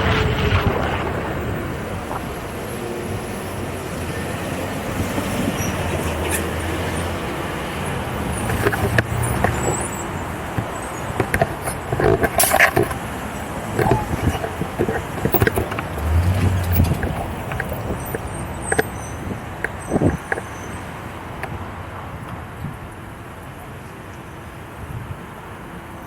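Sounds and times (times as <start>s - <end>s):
wind rushing over microphone: 0.0s - 22.9s
road and traffic noise: 0.0s - 26.0s.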